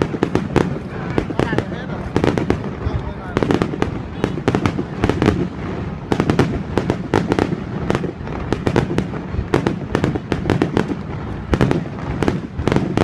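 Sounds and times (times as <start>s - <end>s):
fireworks cracking: 0.0s - 13.0s.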